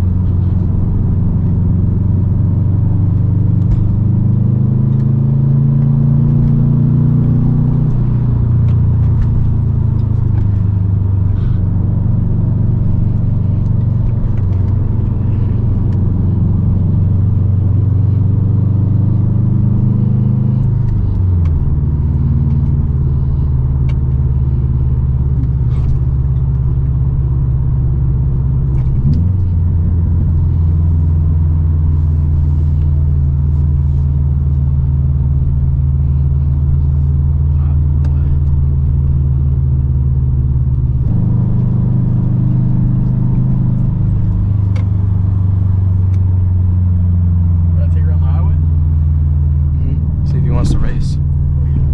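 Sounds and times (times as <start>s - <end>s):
car exhaust rumble: 0.0s - 51.9s.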